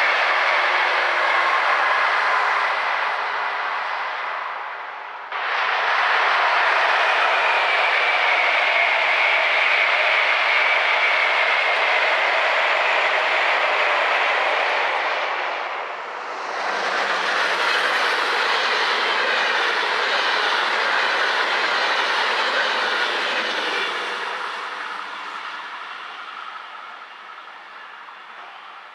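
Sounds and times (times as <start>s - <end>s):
train rolling past: 0.0s - 28.9s.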